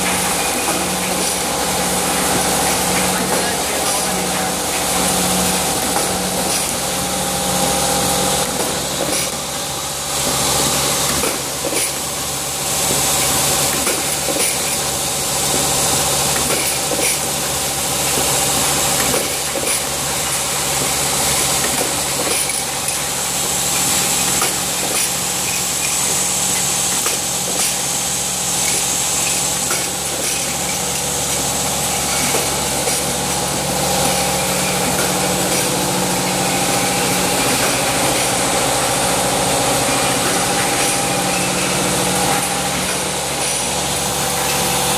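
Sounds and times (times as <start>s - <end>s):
machine humming: 0.0s - 44.9s.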